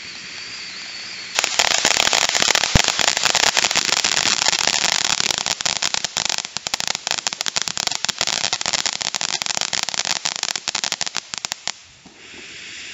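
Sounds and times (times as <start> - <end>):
firework crackling: 0.0 - 12.9.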